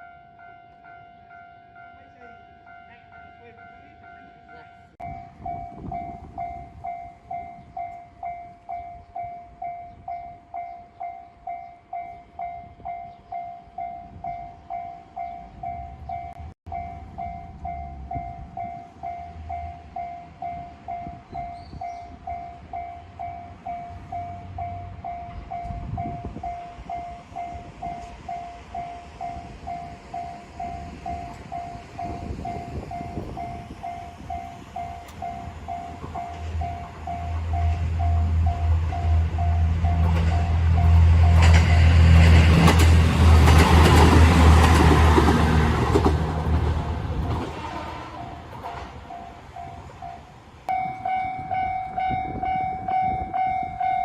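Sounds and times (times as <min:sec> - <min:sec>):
low rumble of passing train: 0:00.0 - 0:54.0
railroad crossing warning bell: 0:00.0 - 0:54.0.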